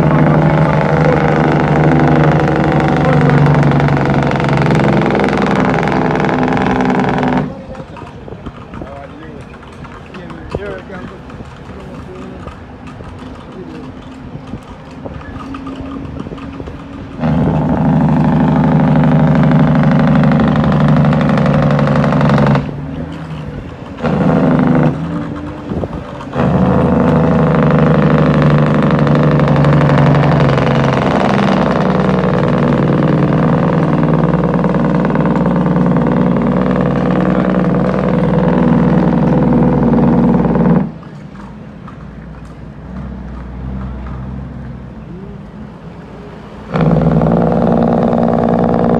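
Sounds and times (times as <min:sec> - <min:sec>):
road rumble: 0:00.0 - 0:48.9
truck diesel engine drone: 0:00.0 - 0:48.9.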